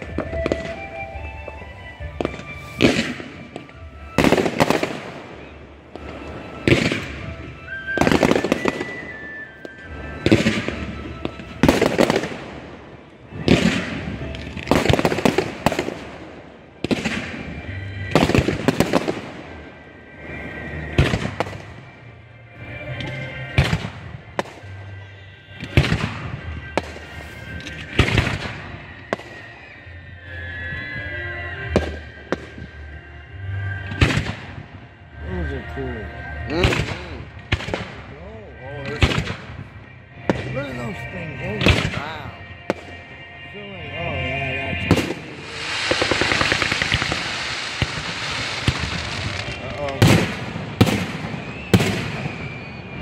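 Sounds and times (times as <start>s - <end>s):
firework crackles: 0.0s - 22.1s, 22.7s - 31.0s, 36.4s - 43.3s, 44.8s - 53.0s
fireworks bursting with bangs: 0.0s - 22.2s, 22.8s - 29.9s, 31.6s - 33.0s, 33.7s - 35.0s, 36.5s - 43.4s, 44.7s - 53.0s.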